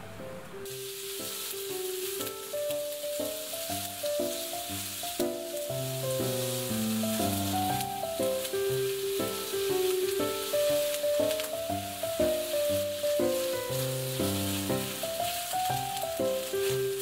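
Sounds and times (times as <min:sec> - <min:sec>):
gentle background music: 0:00.0 - 0:17.0
food sizzling in frying pan: 0:00.6 - 0:17.0.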